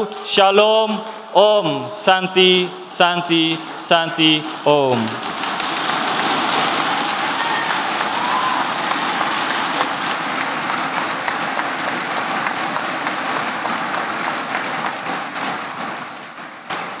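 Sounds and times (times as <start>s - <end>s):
audience applauding: 3.2s - 17.0s.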